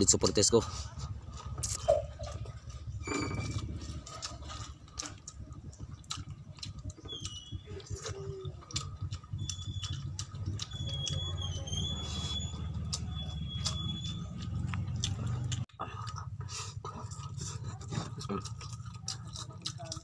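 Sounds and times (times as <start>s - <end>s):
chewing and lip-smacking: 0.7s - 20.0s.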